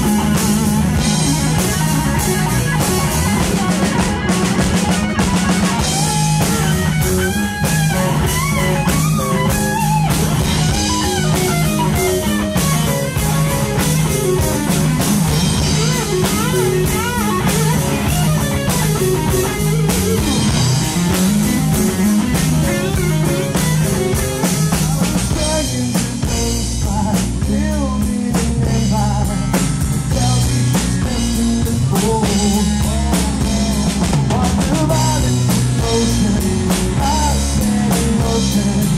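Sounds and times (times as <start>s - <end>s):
bass line: 0.0s - 38.9s
drum kit: 0.0s - 38.9s
electric guitar lead with bent notes: 0.0s - 38.9s.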